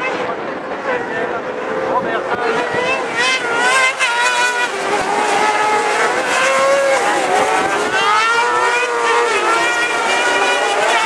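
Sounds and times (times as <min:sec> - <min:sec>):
racing buggy engines revving: 0:00.0 - 0:11.0.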